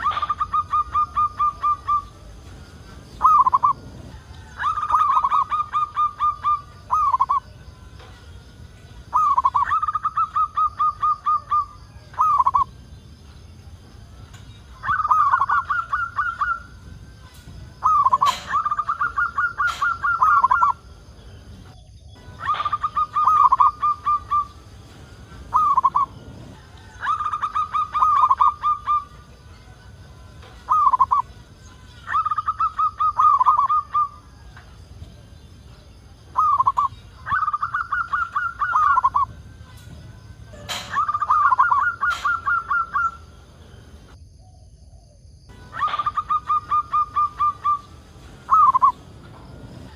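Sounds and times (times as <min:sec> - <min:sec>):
dove cooing: 0:00.0 - 0:07.6, 0:09.0 - 0:12.7, 0:14.7 - 0:21.6, 0:22.2 - 0:49.9.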